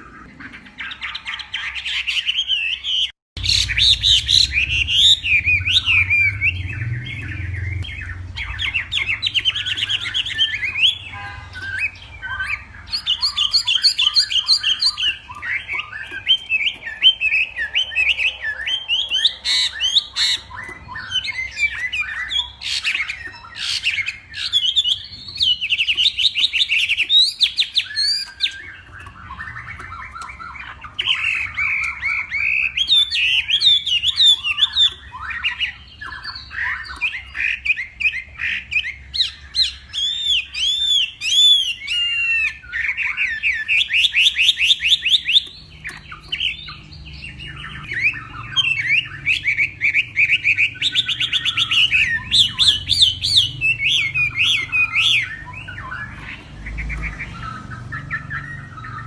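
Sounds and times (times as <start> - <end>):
bird singing whistled phrases: 0.8 - 59.0.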